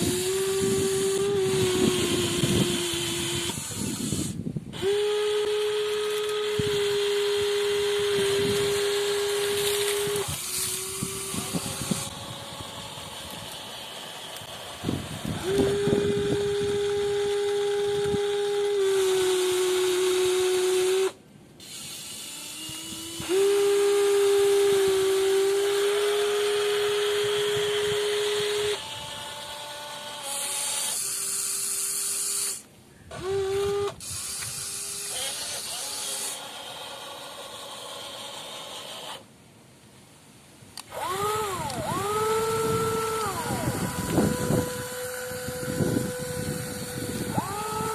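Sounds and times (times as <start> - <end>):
small electric motors whining: 0.0 - 39.3, 40.8 - 47.9.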